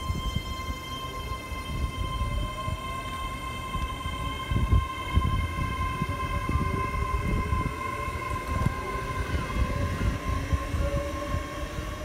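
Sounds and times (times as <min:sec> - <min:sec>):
high-pitched train whine: 0:00.0 - 0:12.0
train wheels rumbling on rail: 0:00.0 - 0:12.0.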